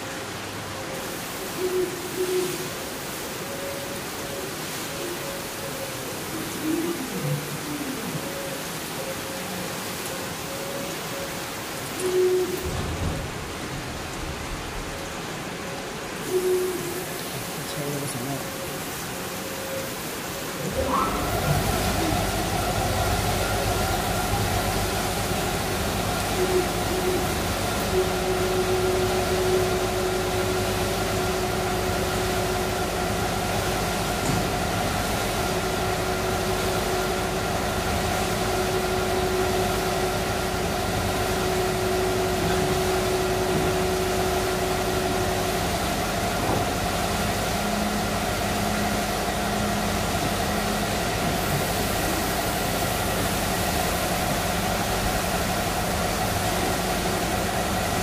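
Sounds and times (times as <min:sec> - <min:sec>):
laser cutter hum and hiss: 0:00.0 - 0:58.0
steady machine tones: 0:00.0 - 0:58.0.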